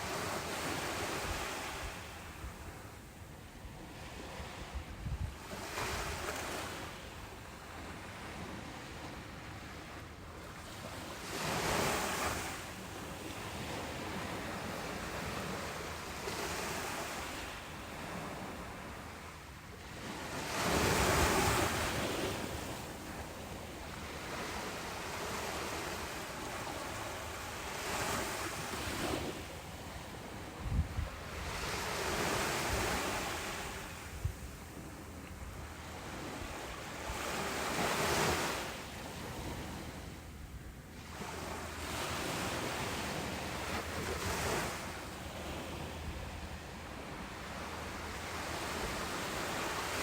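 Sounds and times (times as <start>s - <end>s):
ocean waves breaking on beach: 0.0s - 50.0s.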